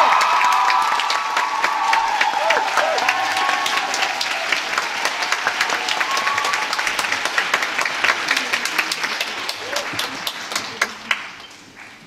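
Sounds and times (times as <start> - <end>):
audience clapping: 0.0 - 12.0.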